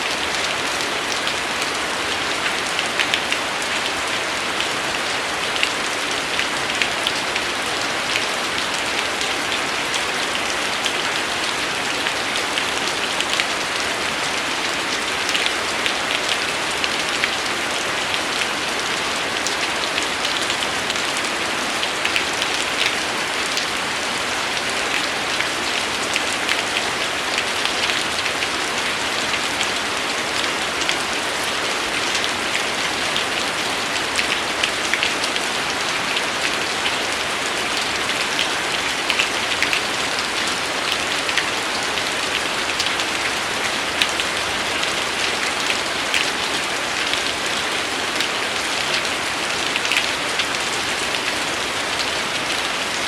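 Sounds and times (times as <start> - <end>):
rain falling with drop ticks: 0.0 - 53.0.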